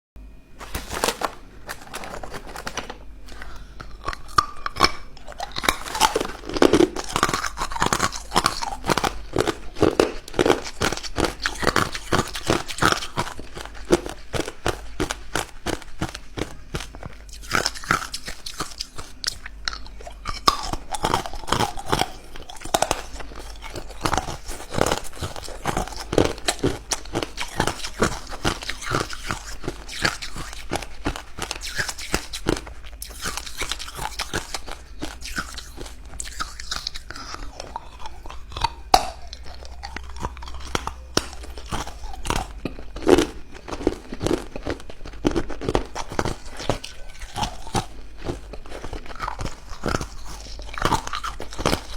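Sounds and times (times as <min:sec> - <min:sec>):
person chewing ice cubes: 0:00.6 - 0:51.9.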